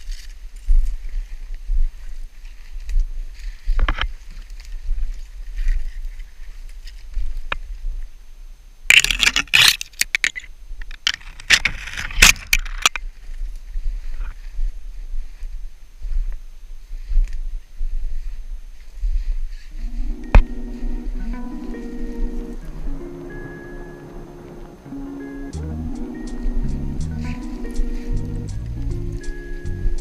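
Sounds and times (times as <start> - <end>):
branches scraping jacket: 0.0 - 8.2, 11.2 - 30.0
footsteps in snow: 0.0 - 8.2, 13.0 - 30.0.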